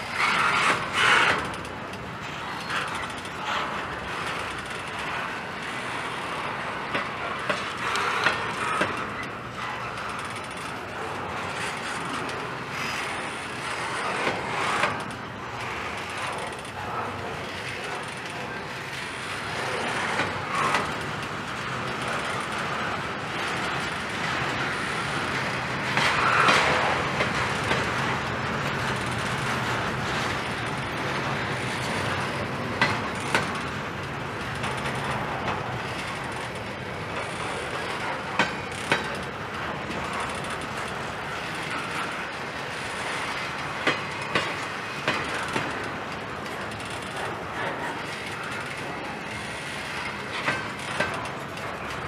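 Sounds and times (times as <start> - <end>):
sharp clanks and clicks: 0.0 - 52.0
train wheels rattling on rails: 0.0 - 52.0.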